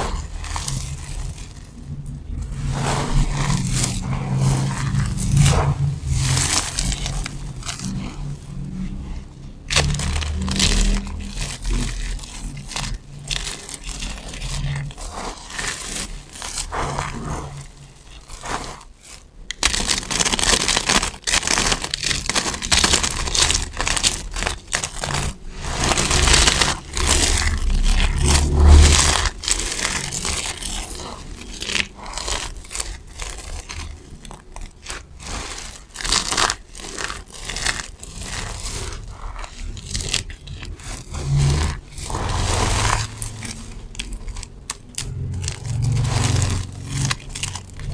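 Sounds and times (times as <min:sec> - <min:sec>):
dry soap flakes crackling: 0:00.0 - 0:47.9.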